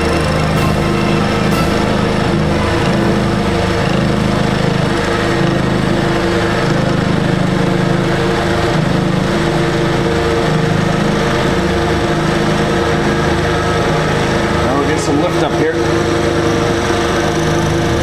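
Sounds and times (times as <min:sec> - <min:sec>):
milling machine drone: 0:00.0 - 0:18.0.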